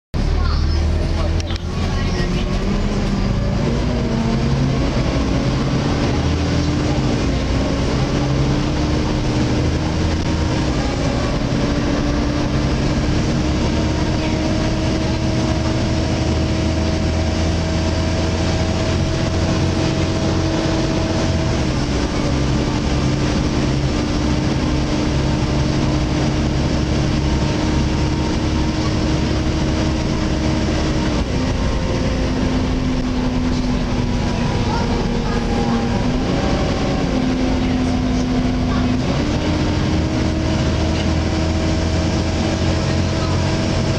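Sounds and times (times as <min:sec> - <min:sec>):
diesel bus engine rumble: 0:00.1 - 0:43.9.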